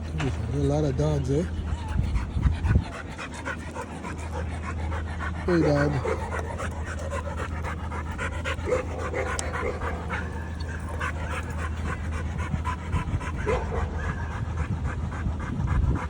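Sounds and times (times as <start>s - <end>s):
dog panting: 0.0s - 16.0s
low hum: 0.0s - 16.0s.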